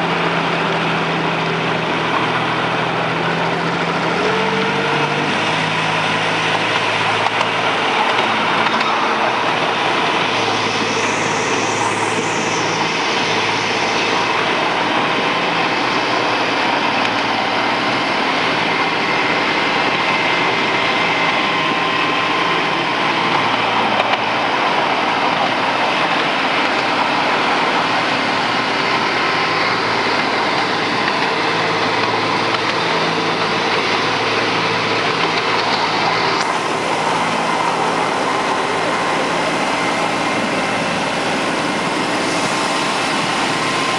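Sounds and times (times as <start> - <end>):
diesel locomotive engine hum: 0.0 - 43.9
rushing noise of moving train: 0.0 - 43.9.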